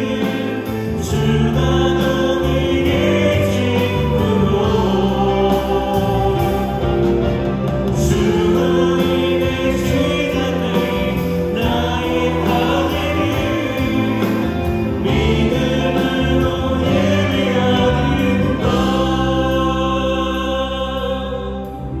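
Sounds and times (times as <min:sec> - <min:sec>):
bass guitar: 0:00.0 - 0:22.0
drums: 0:00.0 - 0:22.0
electric guitar: 0:00.0 - 0:22.0
group singing worship song: 0:00.0 - 0:22.0
keyboard: 0:00.0 - 0:22.0.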